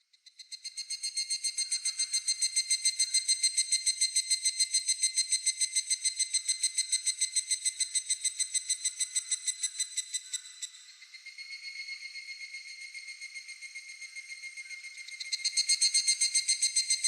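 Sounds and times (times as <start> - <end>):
cicada calling: 1.6 - 17.0.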